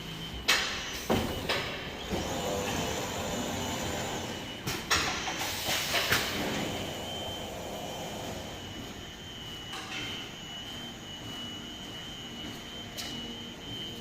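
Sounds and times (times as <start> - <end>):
printing machine running: 0.0 - 14.0.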